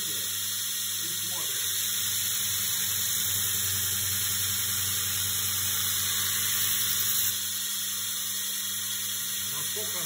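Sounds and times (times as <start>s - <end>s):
belt grinder running: 0.0s - 10.0s.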